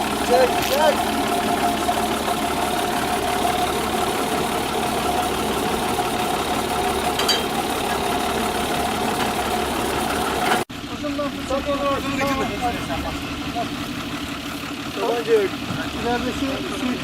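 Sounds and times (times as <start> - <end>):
fire truck engine and pump: 0.0 - 17.0.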